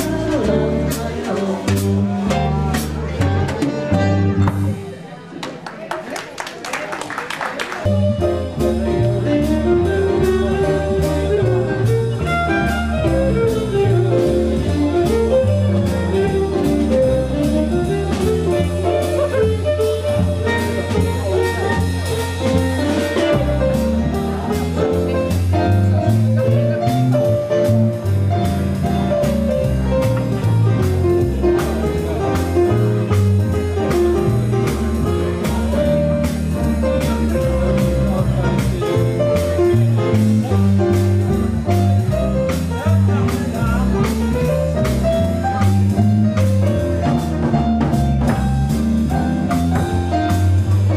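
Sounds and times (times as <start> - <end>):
double bass: 0.0 - 5.3, 7.8 - 50.9
jazz band playing: 0.0 - 5.4, 6.4 - 50.9.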